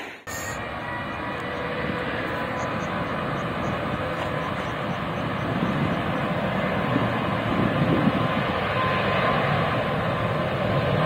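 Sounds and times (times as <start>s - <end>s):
distant airliner engines roaring: 0.0s - 11.0s
faint high engine whine: 0.2s - 11.0s.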